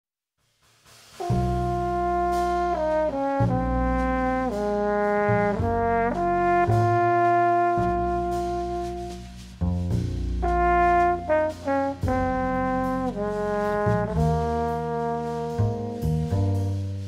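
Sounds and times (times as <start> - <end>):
french horn melody: 1.2 - 17.0
sustained low bass notes: 1.3 - 17.0.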